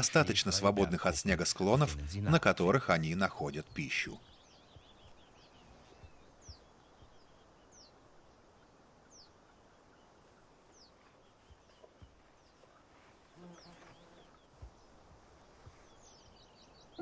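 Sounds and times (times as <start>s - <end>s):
high falling bird calls: 0.0s - 17.0s.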